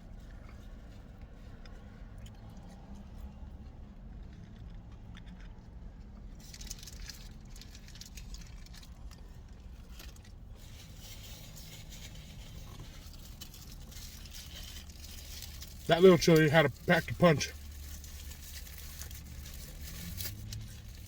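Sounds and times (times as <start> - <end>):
chewing and handling food: 0.0 - 21.0.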